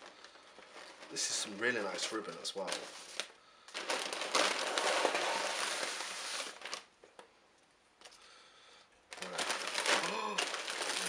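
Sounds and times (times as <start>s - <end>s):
paper wrapping rustling: 0.0s - 7.2s, 9.1s - 11.0s.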